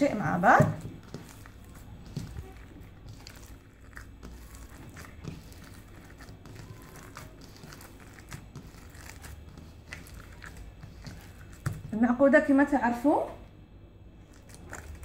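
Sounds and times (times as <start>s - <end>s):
wet squishing of kneaded mixture: 0.0s - 15.0s.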